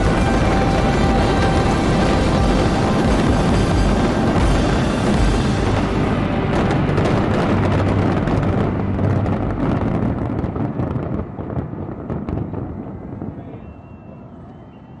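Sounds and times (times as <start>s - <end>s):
fireworks popping and crackling: 0.0s - 14.2s.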